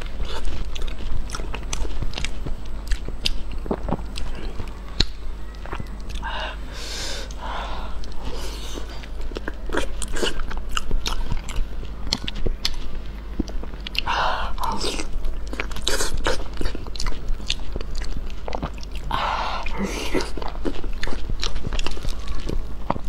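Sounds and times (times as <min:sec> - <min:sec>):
wet chewing with lip smacks: 0:00.0 - 0:06.3, 0:08.0 - 0:23.0.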